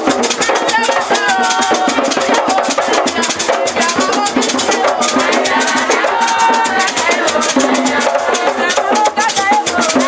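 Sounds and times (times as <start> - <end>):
crowd singing worship song: 0.0 - 10.0
drums: 0.0 - 10.0.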